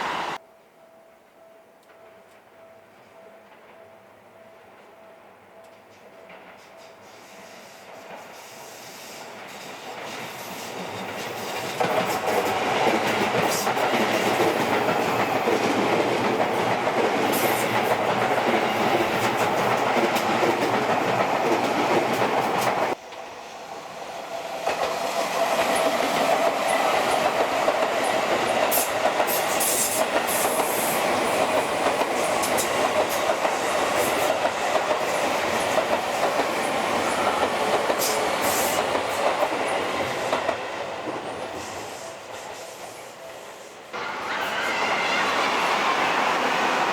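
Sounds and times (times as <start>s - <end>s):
electric train wheels clickety-clack: 4.5s - 46.9s.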